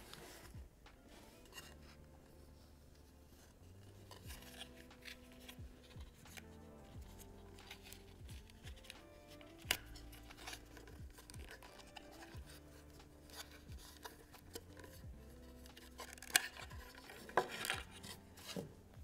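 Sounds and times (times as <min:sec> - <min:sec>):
plastic rubbing and scraping: 0:00.0 - 0:19.0.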